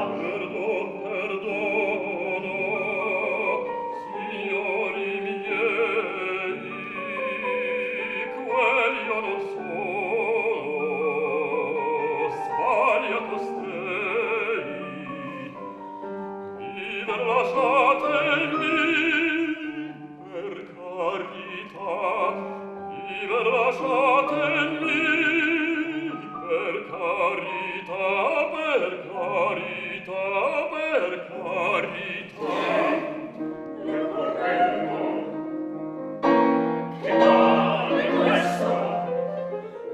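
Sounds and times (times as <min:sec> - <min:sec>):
operatic singing with vibrato: 0:00.0 - 0:16.0, 0:16.6 - 0:39.9.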